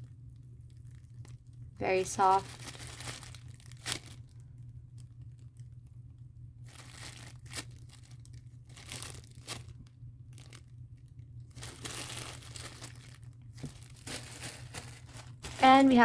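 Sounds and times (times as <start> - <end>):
plastic packaging crinkling: 0.3 - 6.0, 6.6 - 16.0.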